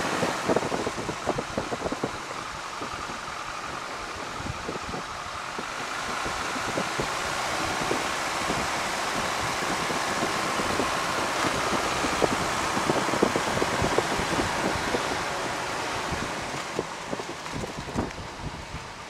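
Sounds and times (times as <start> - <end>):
rushing airflow: 0.0 - 19.0
small plane engine running: 0.0 - 19.0
wind buffeting microphone: 0.0 - 19.0.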